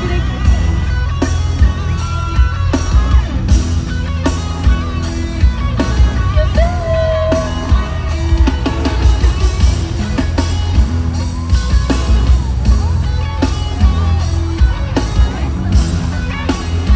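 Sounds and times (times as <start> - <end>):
loud music with bass beat: 0.0 - 16.9.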